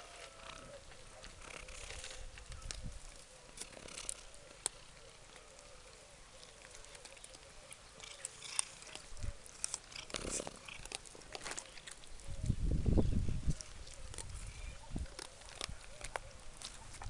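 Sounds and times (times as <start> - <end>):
cats crunching dry kibble: 0.0 - 17.0.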